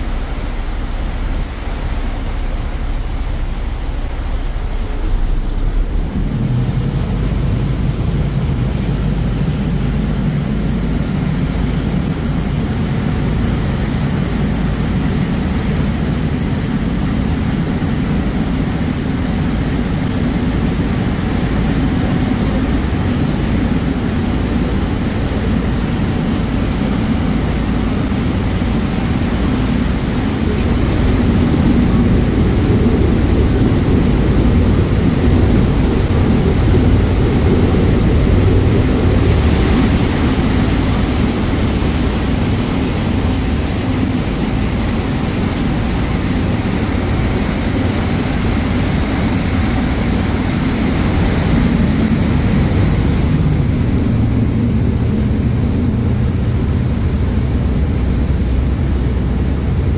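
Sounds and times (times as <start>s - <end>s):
churning propeller wash: 0.0s - 59.9s
ferry diesel engines droning: 0.0s - 59.9s.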